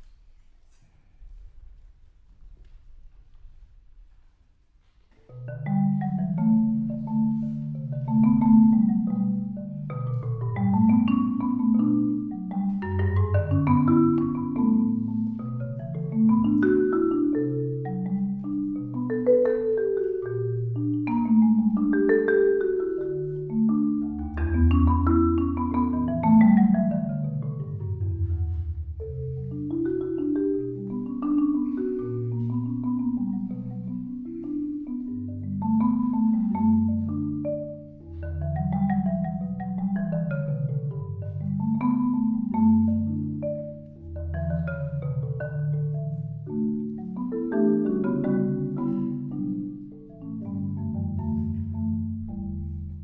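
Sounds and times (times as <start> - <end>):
marimba played with mallets: 5.1 - 53.0.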